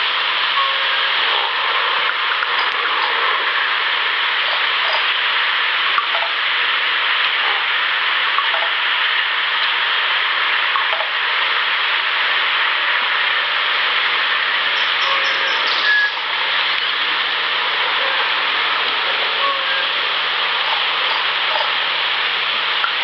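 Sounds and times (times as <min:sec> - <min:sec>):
loud hissing noise: 0:00.0 - 0:23.0.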